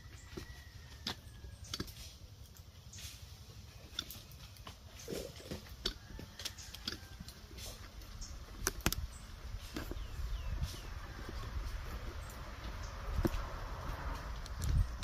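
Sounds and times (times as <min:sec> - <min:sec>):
charcoal crackling and popping: 0:00.0 - 0:15.0.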